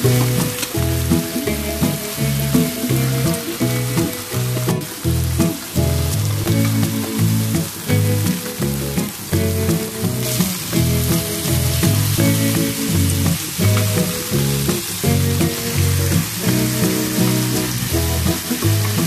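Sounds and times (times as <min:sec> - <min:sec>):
background music with low notes: 0:00.0 - 0:19.0
steaks sizzling in a pan: 0:00.0 - 0:19.0.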